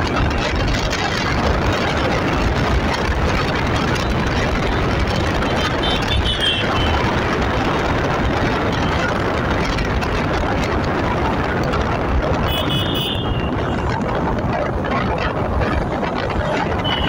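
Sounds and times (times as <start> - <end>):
engine and tyre noise: 0.0 - 17.0
wind on microphone: 0.0 - 17.0.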